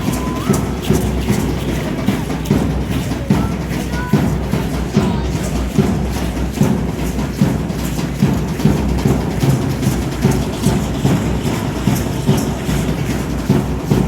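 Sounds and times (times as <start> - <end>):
large drum beating: 0.0 - 14.0
rattling clatter: 0.0 - 14.0.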